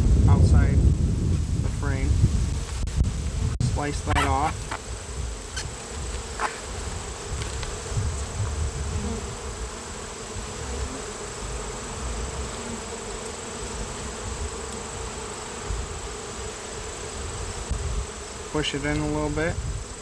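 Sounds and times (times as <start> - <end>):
bees buzzing: 2.2 - 20.0.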